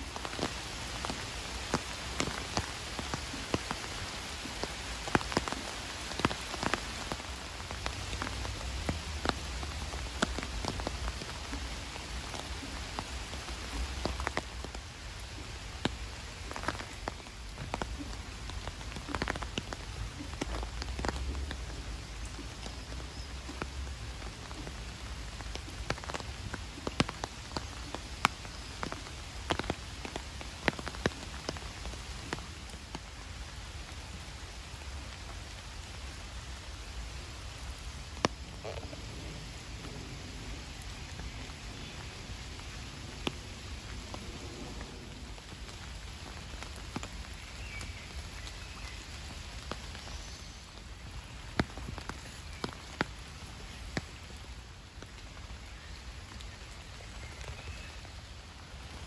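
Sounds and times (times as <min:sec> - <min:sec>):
rain hissing on lake and foliage: 0:00.0 - 0:59.0.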